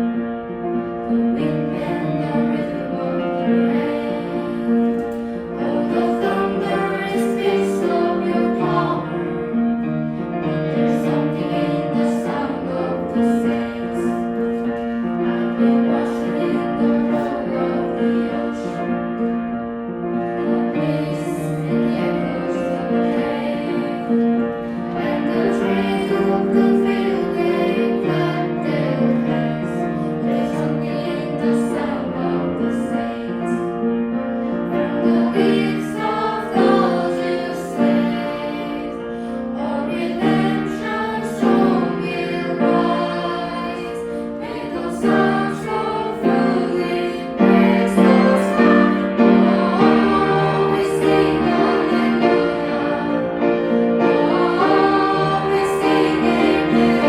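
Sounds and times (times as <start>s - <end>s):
piano accompaniment: 0.0s - 57.0s.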